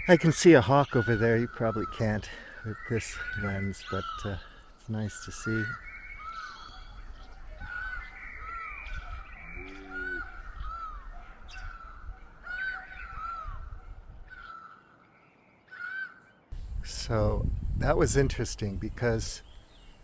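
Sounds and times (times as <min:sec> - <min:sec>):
birds making short arched calls: 0:00.0 - 0:17.1.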